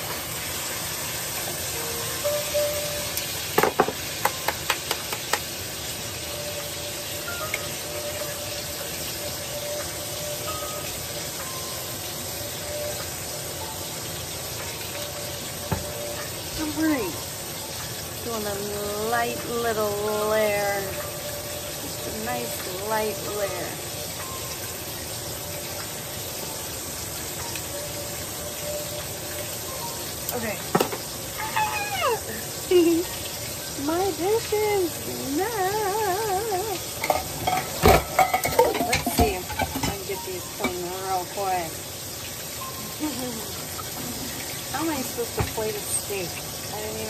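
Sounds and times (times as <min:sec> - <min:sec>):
steak sizzling in frying pan: 0:00.0 - 0:47.0.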